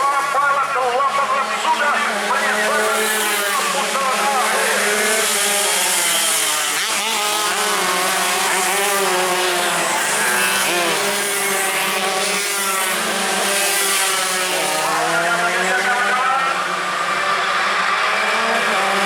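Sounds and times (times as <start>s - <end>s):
motorcycles revving at high revs: 1.5s - 19.0s.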